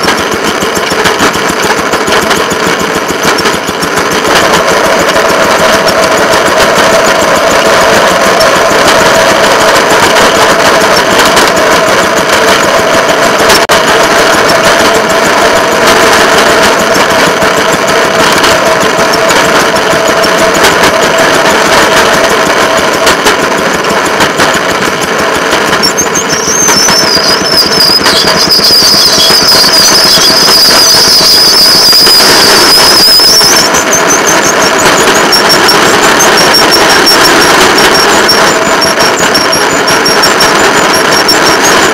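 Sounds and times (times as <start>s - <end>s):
steel wheels squealing on rail: 0.0s - 23.1s, 24.4s - 41.9s
track motor car engine running: 0.0s - 41.9s.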